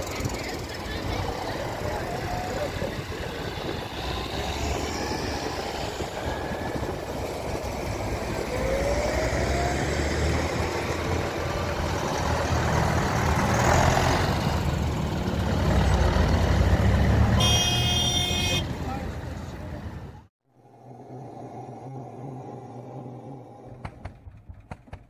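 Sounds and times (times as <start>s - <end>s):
passing car traffic: 0.0s - 20.3s
tractor engines driving past: 0.0s - 25.0s.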